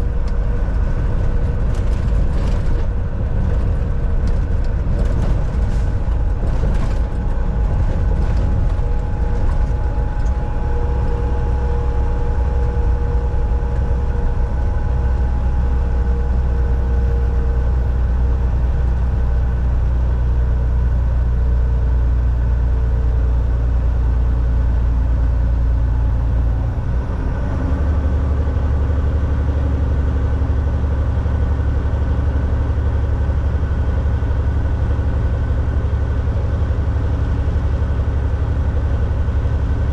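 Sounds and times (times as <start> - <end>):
road and tyre noise: 0.0 - 39.9
truck engine drone: 0.0 - 39.9.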